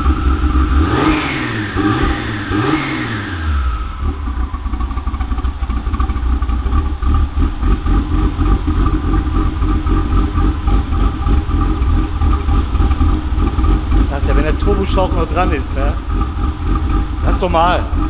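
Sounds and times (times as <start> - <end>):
car engine revving and idling: 0.0 - 18.0.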